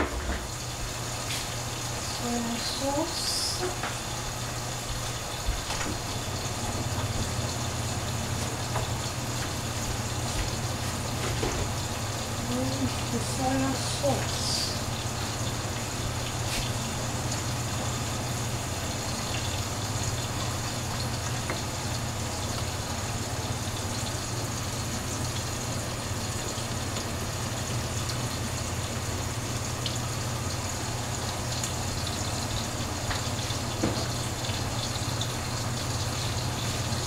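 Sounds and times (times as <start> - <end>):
stovetop rushing and humming: 0.0 - 37.0.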